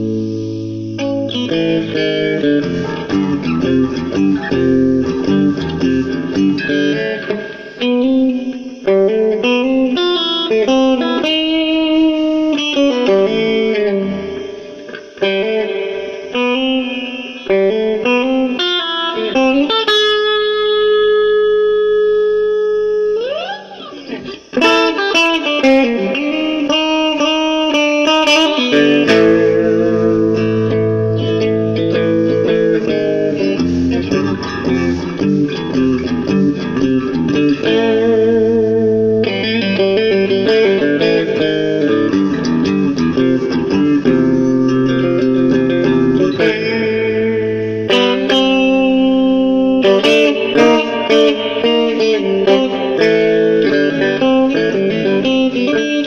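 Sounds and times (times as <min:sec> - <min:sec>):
electric guitar playing solo: 0:00.0 - 0:56.0.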